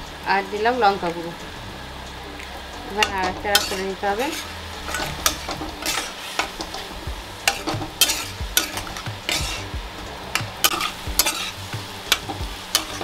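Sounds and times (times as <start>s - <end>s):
spice paste sizzling: 0.0s - 13.0s
spatula scraping a pan: 2.5s - 13.0s.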